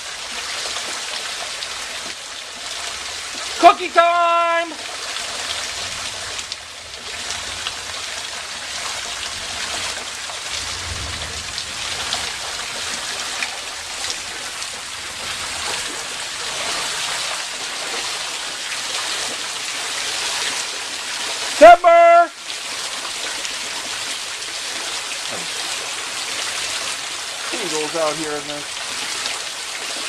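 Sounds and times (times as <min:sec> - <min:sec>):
raindrops ticking close by: 0:00.0 - 0:21.6, 0:22.3 - 0:30.0
steady hiss of rain: 0:00.0 - 0:30.0.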